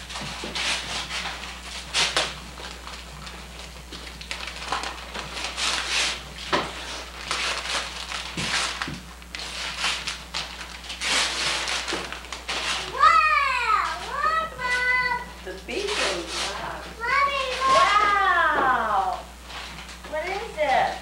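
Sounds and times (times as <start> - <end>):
paper rustling and crumpling: 0.0 - 21.0
steady low hum: 0.0 - 21.0.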